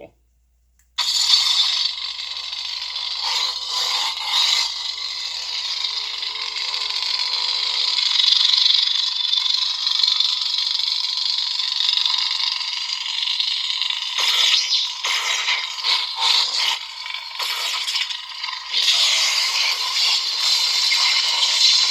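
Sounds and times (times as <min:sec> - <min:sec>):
lightsaber electric buzzing hum: 0:01.0 - 0:21.9.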